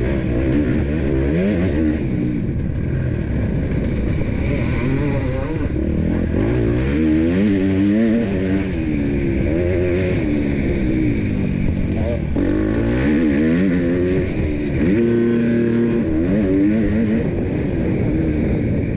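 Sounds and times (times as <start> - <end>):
motocross engine revving: 0.0 - 18.9.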